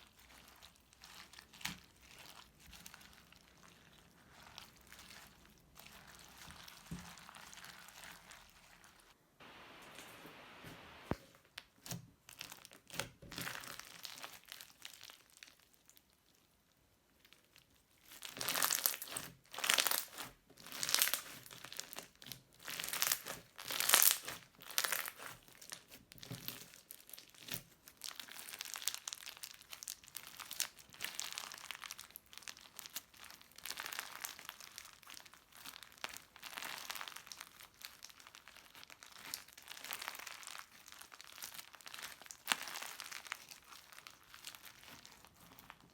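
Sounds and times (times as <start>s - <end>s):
crunchy slime crackling: 0.0s - 9.2s, 11.0s - 16.5s, 17.2s - 45.9s.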